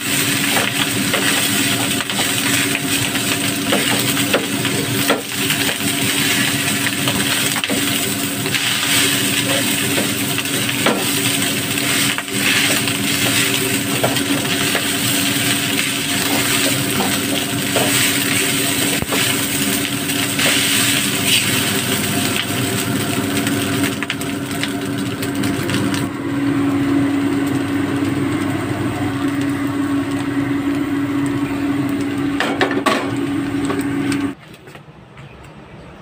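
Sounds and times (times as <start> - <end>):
egg sizzling in pan: 0.0 - 34.4.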